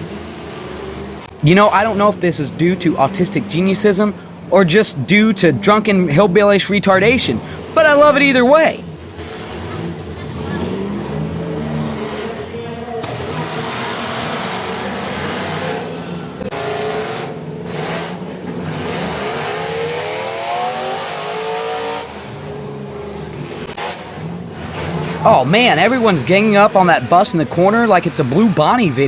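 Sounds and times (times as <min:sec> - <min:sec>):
bus engines revving: 0:00.0 - 0:29.0.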